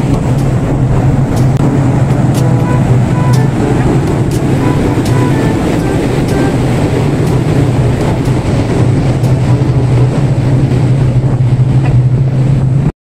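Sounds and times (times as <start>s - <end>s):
ship machinery drone: 0.0s - 12.9s.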